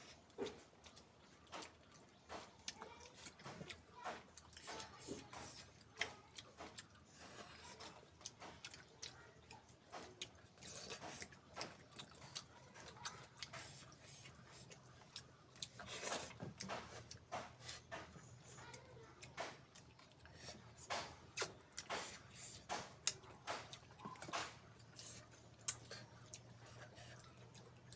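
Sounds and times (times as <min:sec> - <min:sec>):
chewing clicks and smacks: 0:00.0 - 0:27.9.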